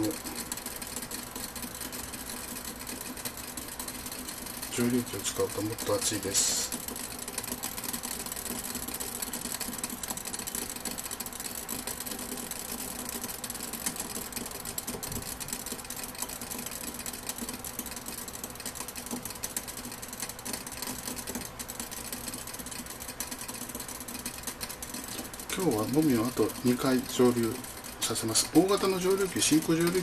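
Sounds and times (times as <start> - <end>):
water boiling with crackling bubbles: 0.0 - 30.0.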